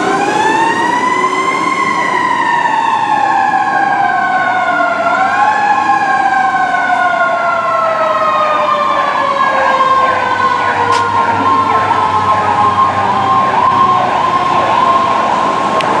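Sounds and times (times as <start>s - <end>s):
siren yelping sweeps: 0.0s - 15.7s
siren wail falling in pitch: 0.0s - 15.8s
steady high siren tone: 0.0s - 15.9s.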